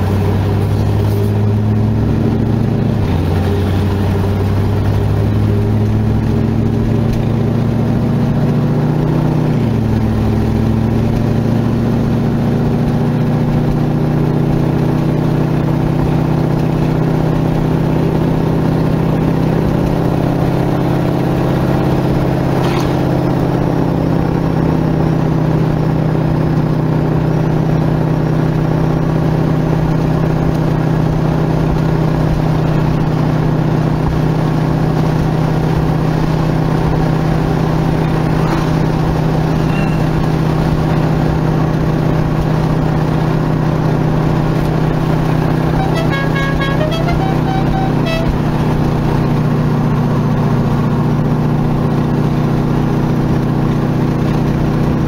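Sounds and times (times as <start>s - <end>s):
car engine droning: 0.0s - 55.0s
road rumble: 0.0s - 55.0s.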